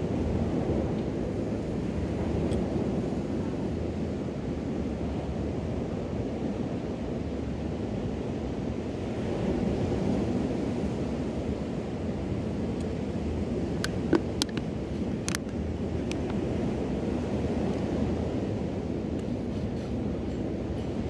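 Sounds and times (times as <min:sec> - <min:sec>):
waves washing onto sand: 0:00.0 - 0:21.0
wind rumble on microphone: 0:00.0 - 0:21.0.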